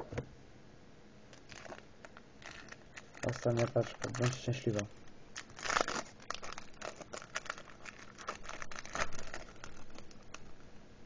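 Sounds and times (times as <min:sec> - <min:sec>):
foil packet crinkling: 0:01.3 - 0:10.7.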